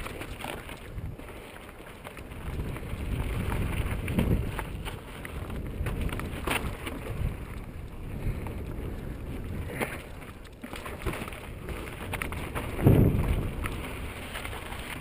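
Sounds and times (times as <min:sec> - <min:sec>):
bike tyres rolling over stones: 0:00.0 - 0:15.0
wind rumble on microphone: 0:00.0 - 0:15.0
bike rattles and knocks: 0:02.2 - 0:15.0.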